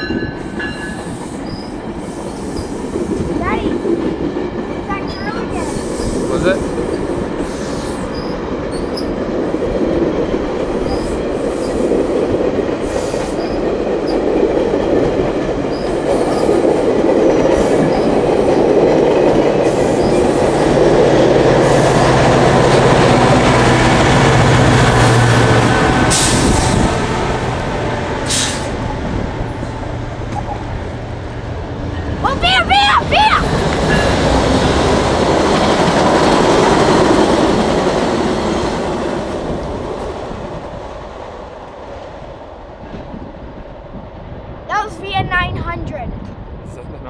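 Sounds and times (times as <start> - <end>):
steel wheels on rail: 0.0 - 44.6
diesel locomotive engine hum: 0.0 - 47.0.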